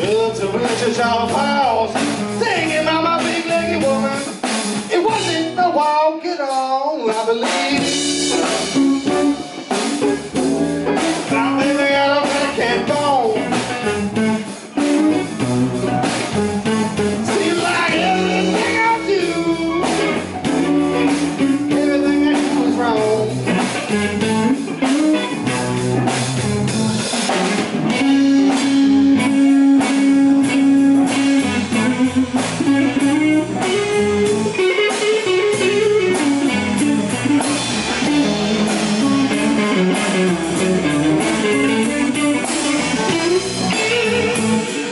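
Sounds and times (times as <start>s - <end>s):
bass guitar: 0.0s - 44.9s
drum kit: 0.0s - 44.9s
electric guitar solo: 7.7s - 44.9s.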